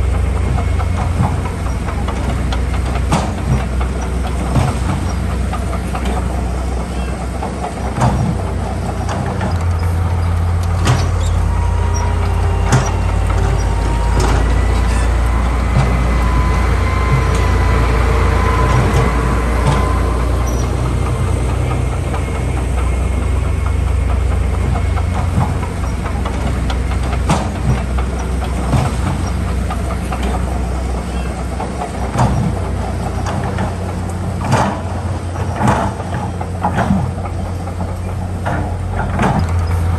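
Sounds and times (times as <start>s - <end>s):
diesel engine drone: 0.0s - 39.9s
metallic clanks and knocks: 0.1s - 39.9s.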